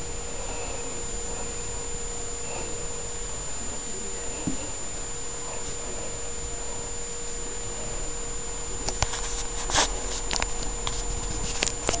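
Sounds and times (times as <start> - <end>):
high whine and hum: 0.0 - 12.0.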